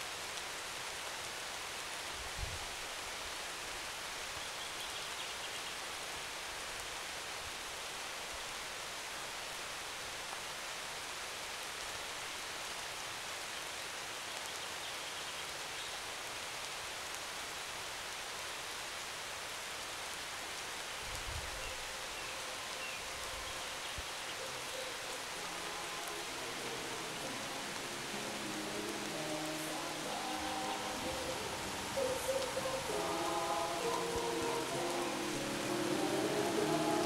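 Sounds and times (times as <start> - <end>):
steady rain-like hiss: 0.0 - 37.0.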